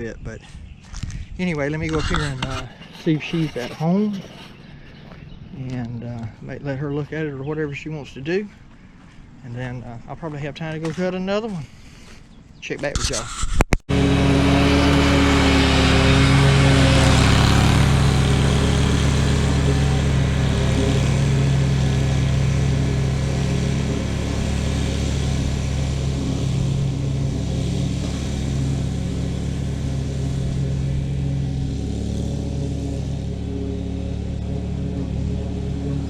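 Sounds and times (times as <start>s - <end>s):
vehicle engine running: 1.5s - 12.2s, 13.9s - 36.0s.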